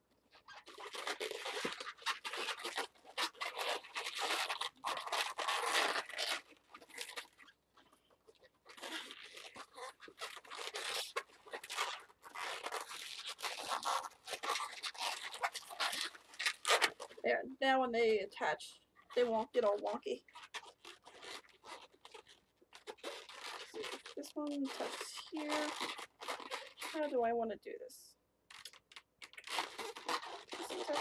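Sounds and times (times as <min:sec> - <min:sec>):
balloons rubbing and twisting: 0:00.0 - 0:17.4, 0:18.4 - 0:27.3, 0:28.5 - 0:31.0.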